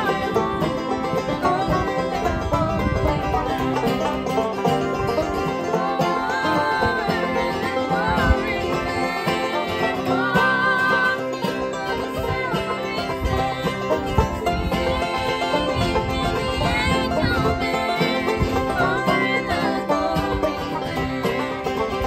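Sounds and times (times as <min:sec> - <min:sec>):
women singing: 0:00.0 - 0:03.8, 0:04.8 - 0:22.0
acoustic guitar: 0:00.0 - 0:22.0
banjo: 0:00.0 - 0:22.0.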